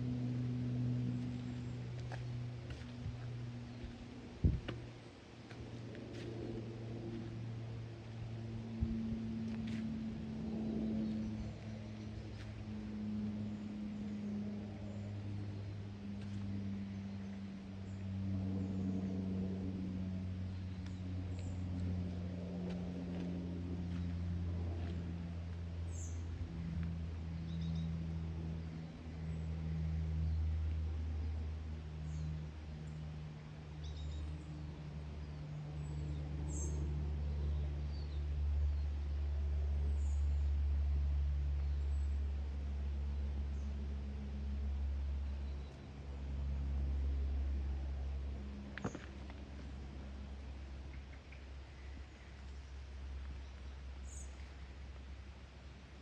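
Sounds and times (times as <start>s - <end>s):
low engine-like hum: 0.0s - 56.0s
steady low rumble: 0.0s - 56.0s.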